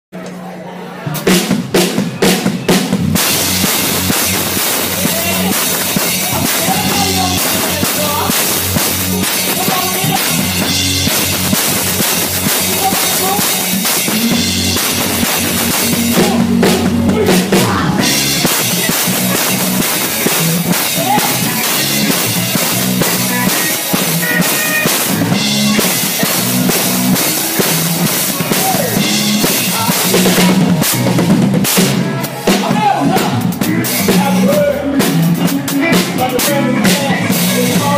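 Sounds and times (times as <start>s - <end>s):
bass line: 1.0s - 37.9s
drum kit played hard: 1.1s - 37.9s.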